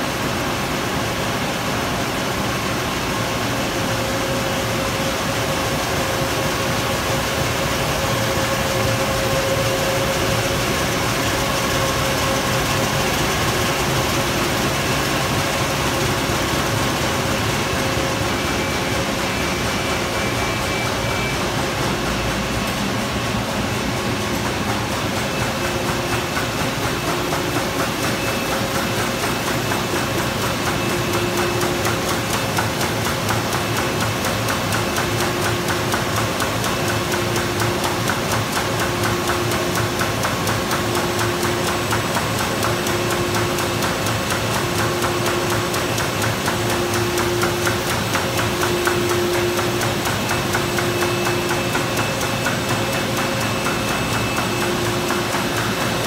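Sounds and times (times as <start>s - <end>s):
steady machine hum: 0.0s - 56.0s
printing press clattering: 4.5s - 56.0s.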